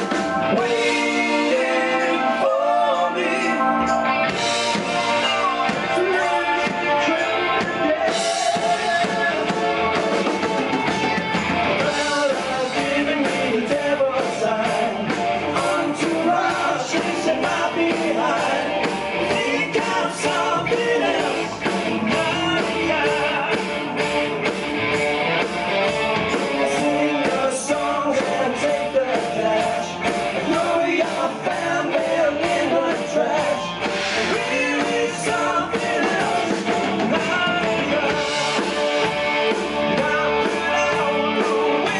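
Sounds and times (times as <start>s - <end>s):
person singing: 0.0s - 10.3s, 11.8s - 24.0s, 26.6s - 41.9s
drum kit: 0.0s - 41.9s
electric guitar: 0.0s - 41.9s.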